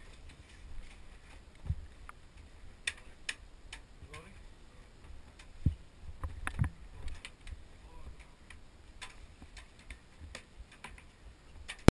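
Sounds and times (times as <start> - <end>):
light clicks and ticks: 0.0 - 11.9.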